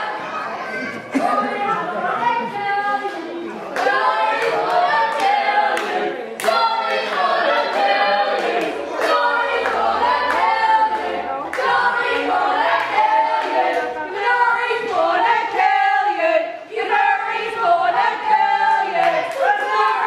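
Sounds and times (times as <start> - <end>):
crowd chanting in unison: 0.0 - 20.0.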